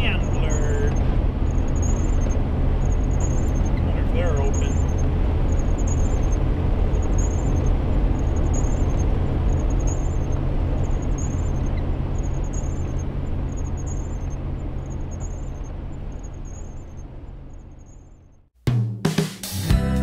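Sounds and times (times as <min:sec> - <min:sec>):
faint high ticking: 0:00.0 - 0:18.4
engine drone: 0:00.0 - 0:18.5.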